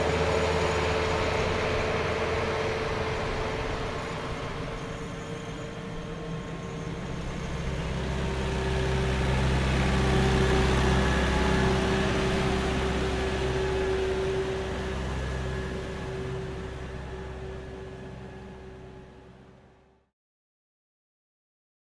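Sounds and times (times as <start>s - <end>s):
rushing noise: 0.0s - 19.7s.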